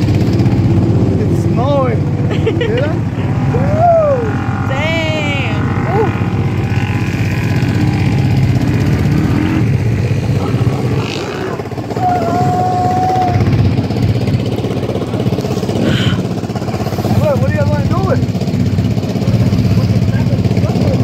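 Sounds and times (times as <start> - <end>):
off-road vehicle engines rumbling: 0.0 - 21.0.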